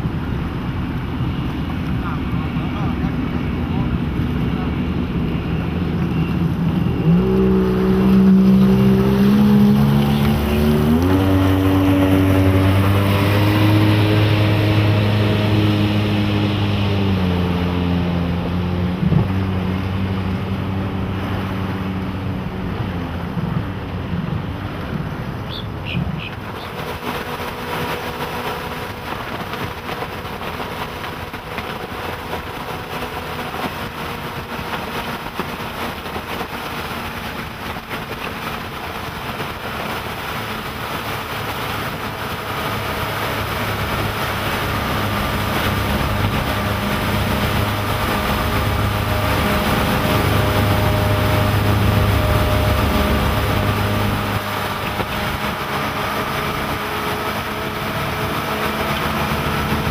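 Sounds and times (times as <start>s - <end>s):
boat engines droning: 0.0s - 59.9s.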